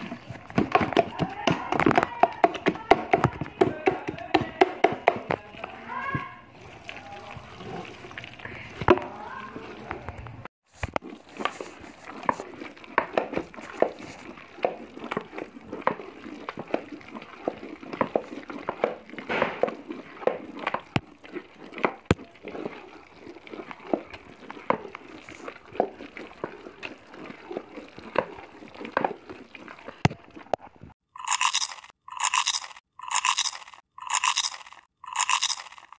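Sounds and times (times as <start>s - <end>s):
masher scraping in pot: 0.0s - 10.1s, 10.7s - 36.0s.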